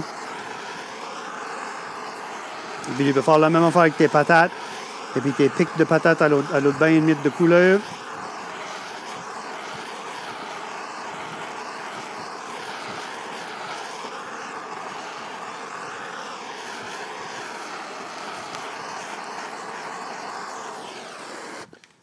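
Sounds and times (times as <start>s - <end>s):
blowtorch roaring hiss: 0.0s - 22.0s.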